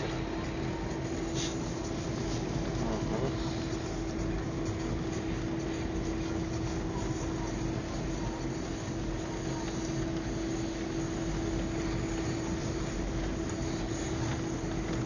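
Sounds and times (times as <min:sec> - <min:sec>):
car engine and road noise: 0:00.0 - 0:15.0
constant hum: 0:00.0 - 0:15.0.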